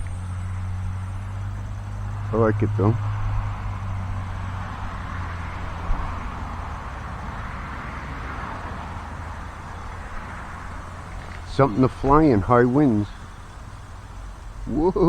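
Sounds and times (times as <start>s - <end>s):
gusty wind buffeting the microphone: 0.0s - 15.0s.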